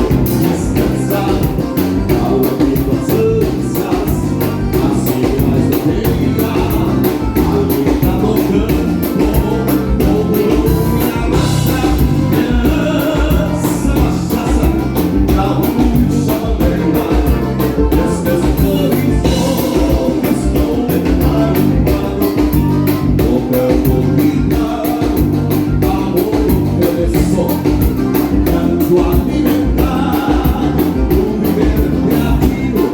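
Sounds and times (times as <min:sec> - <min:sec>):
live dance band playing: 0:00.0 - 0:32.9
person singing: 0:00.0 - 0:32.9
steady drum beat: 0:00.0 - 0:32.9.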